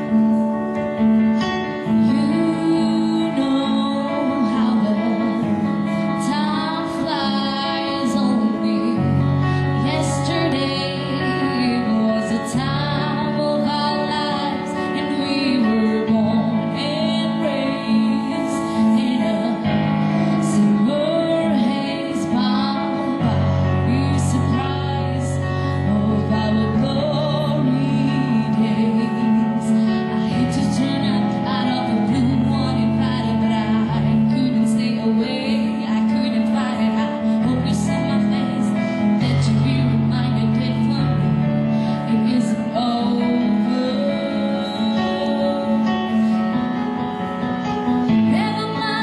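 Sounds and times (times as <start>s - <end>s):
electronic keyboard chords: 0.0s - 49.0s
woman singing into microphone: 1.4s - 49.0s.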